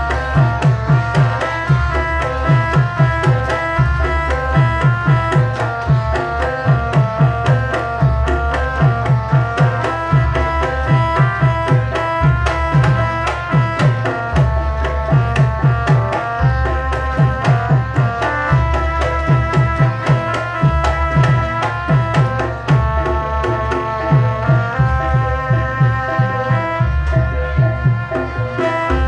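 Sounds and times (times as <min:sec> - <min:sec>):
hand drums fast rhythm: 0:00.0 - 0:29.0
melodic percussion line: 0:00.0 - 0:29.0.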